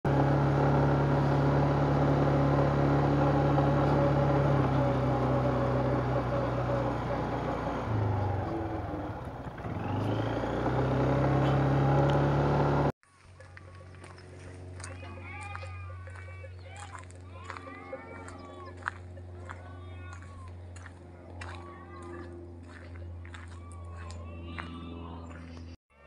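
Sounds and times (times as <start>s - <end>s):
atv engine running: 0.0s - 25.8s.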